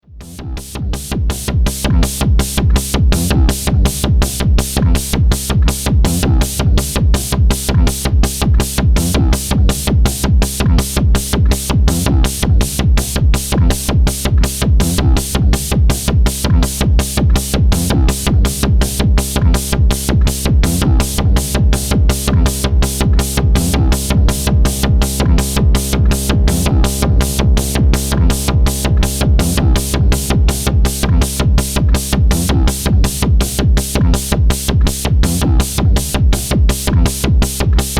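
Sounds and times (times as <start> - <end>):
electronic kick drum: 0.0 - 37.9
sustained synth bass tone: 0.0 - 37.9
hi-hat beat: 0.2 - 37.9.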